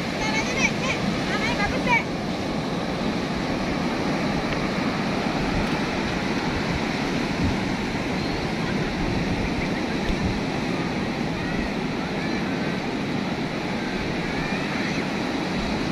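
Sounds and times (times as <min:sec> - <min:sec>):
ocean surf breaking: 0:00.0 - 0:15.9.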